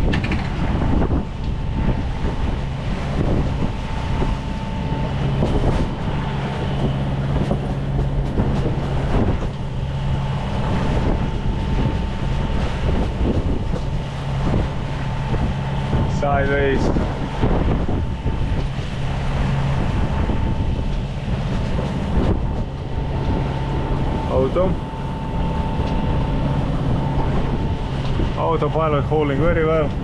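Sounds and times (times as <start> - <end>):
diesel engine running: 0.0 - 30.0
water rushing along hull: 0.0 - 30.0
wind buffeting microphone: 0.0 - 30.0.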